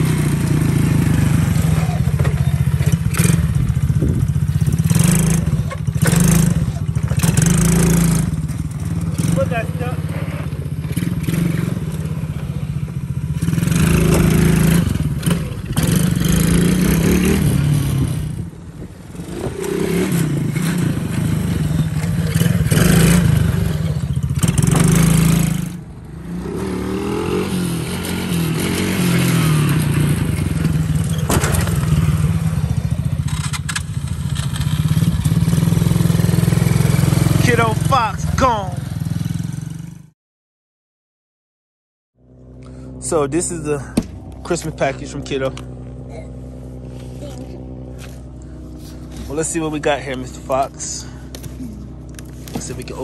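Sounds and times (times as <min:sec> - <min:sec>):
quad bike engines revving: 0:00.0 - 0:40.1, 0:42.2 - 0:53.0.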